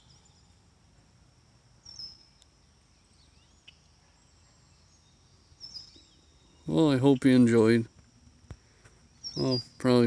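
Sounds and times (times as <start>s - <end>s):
songbird chirps: 0.0s - 10.0s.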